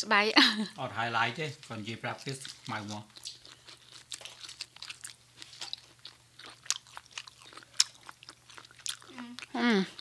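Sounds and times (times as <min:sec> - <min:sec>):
faint steady low hum: 0:00.0 - 0:10.0
people chewing and biting: 0:01.6 - 0:10.0.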